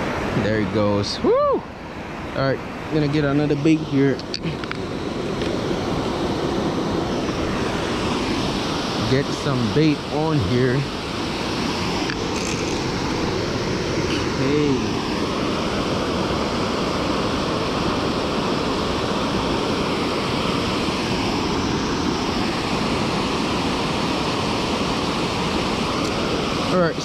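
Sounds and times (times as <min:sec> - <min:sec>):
river water pouring over weir: 0:00.0 - 0:27.0.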